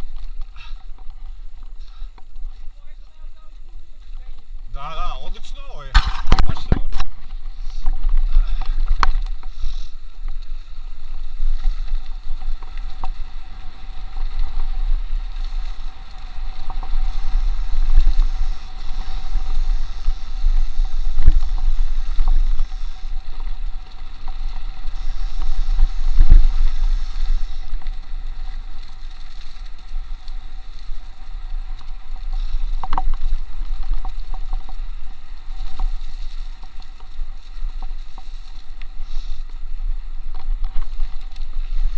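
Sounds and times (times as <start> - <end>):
bike jolting over bumps: 0.0 - 41.9
tyres rolling over dirt: 0.0 - 41.9.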